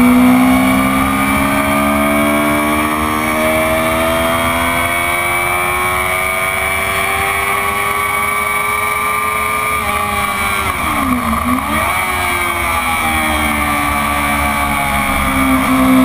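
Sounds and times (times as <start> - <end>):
motorcycle engine running hard: 0.0 - 16.0.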